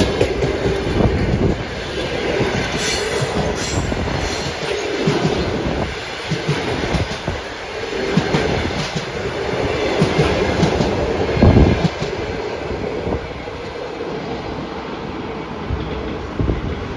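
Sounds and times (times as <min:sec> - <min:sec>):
train coaches rushing past: 0:00.0 - 0:16.9.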